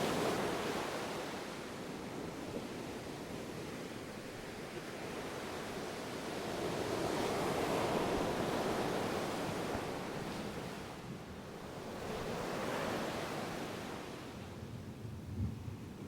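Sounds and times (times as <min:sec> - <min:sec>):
ocean surf washing ashore: 0:00.0 - 0:14.6.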